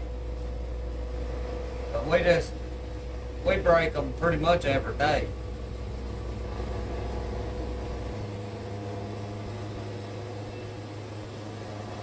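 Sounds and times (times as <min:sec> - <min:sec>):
sawmill engine hum: 0:00.0 - 0:12.0.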